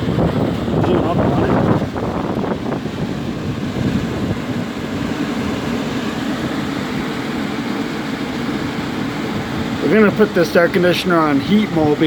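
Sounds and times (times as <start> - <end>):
air conditioner outdoor unit humming: 0.0 - 12.0.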